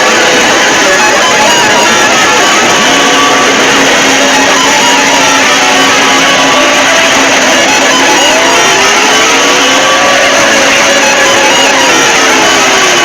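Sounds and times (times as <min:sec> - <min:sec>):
distorted alert tones: 0:00.0 - 0:13.0.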